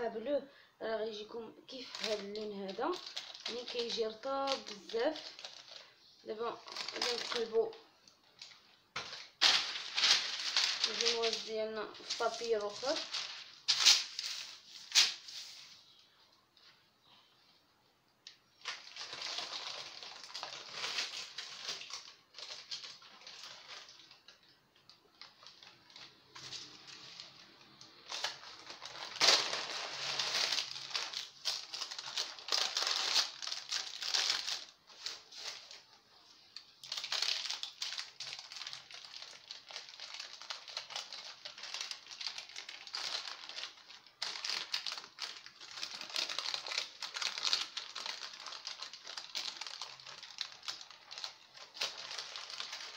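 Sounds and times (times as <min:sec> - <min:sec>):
parchment paper crinkling: 0:01.1 - 0:16.2, 0:18.4 - 0:52.9.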